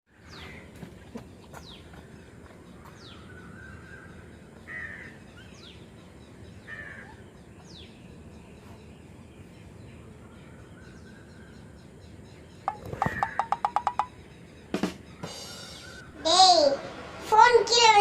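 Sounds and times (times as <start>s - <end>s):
harsh bird calls: 0.1s - 16.8s
steady background noise: 0.1s - 18.0s.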